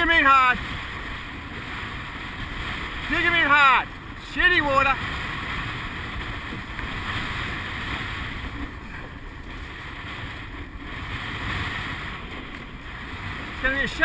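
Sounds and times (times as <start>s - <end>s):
rushing sea water: 0.0s - 14.0s
wind on microphone: 0.0s - 14.0s.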